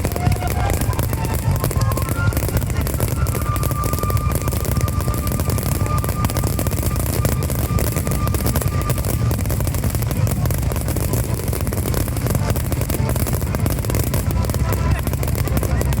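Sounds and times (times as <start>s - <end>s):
deep fireworks booms: 0.0s - 16.0s
faint music: 0.0s - 16.0s
fireworks bursts and crackling: 0.0s - 16.0s.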